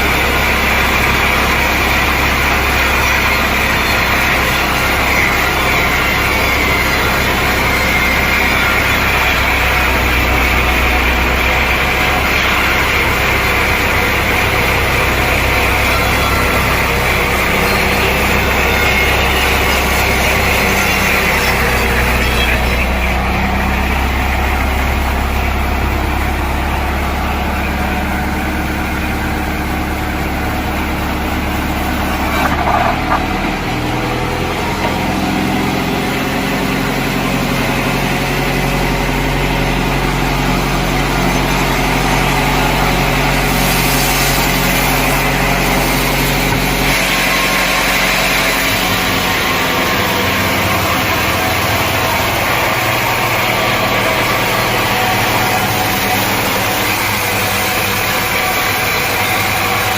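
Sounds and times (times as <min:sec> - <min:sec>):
engine running: 0:00.0 - 0:59.9
sawmill machinery: 0:00.0 - 0:59.9.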